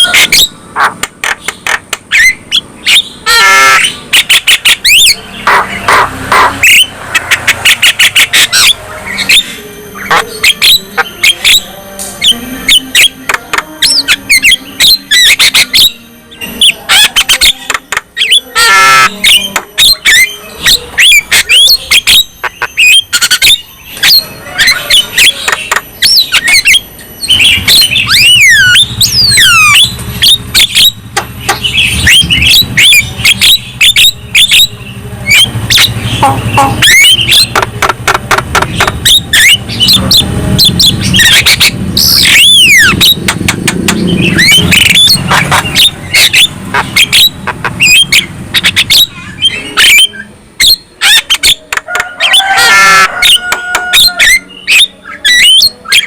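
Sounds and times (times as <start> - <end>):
bird squawking and whistling: 0.0 - 56.0.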